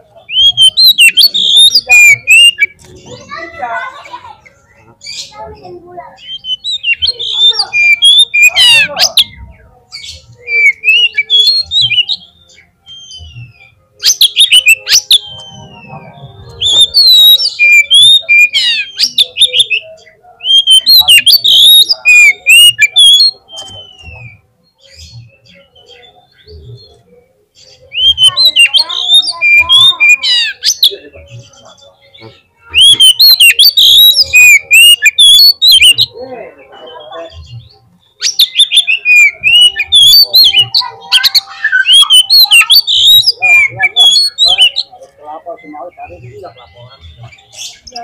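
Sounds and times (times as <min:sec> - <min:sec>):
songbird whistling and chirping: 0:00.1 - 0:03.5, 0:04.4 - 0:48.0.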